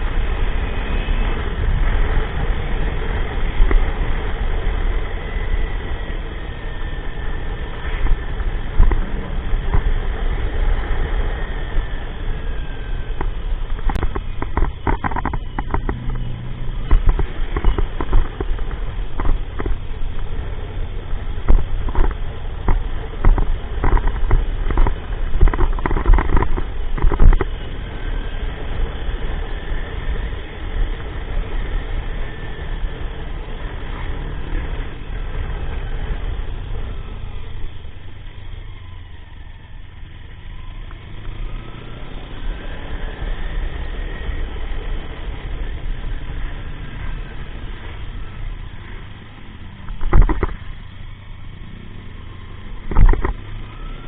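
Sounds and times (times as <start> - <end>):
motorcycle engine: 0.0 - 54.0
wind and road noise: 0.0 - 54.0.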